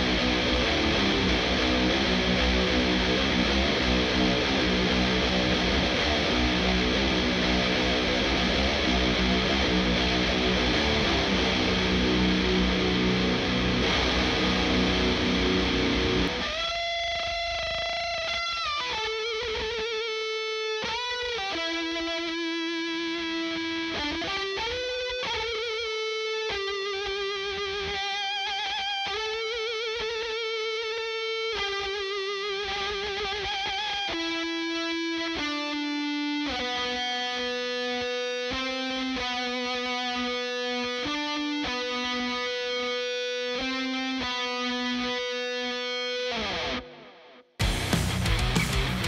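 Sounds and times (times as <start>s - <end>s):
distorted electric guitar solo: 0.0s - 49.0s
multi-tracked rhythm guitar: 0.0s - 49.0s.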